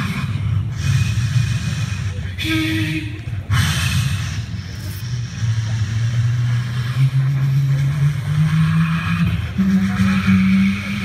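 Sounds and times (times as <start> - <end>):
man imitating train through loudspeaker: 0.0 - 11.0.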